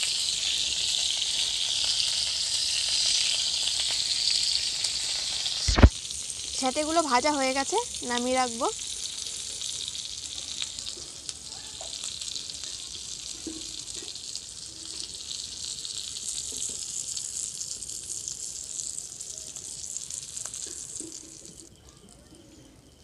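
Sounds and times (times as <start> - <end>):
skewers sizzling on a hot griddle: 0.0 - 23.0.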